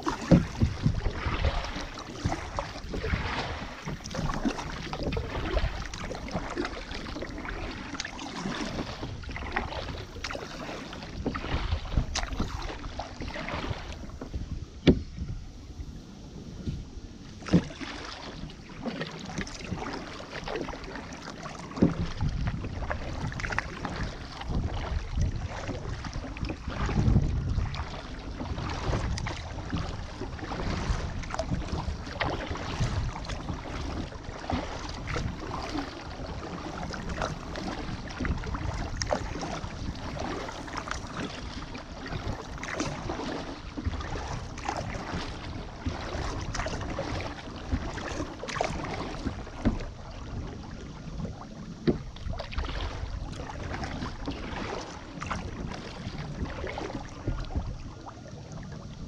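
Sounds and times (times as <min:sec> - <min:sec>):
paddle splashes and drips: 0:00.0 - 0:59.0
wind rumble on microphone: 0:00.0 - 0:59.0.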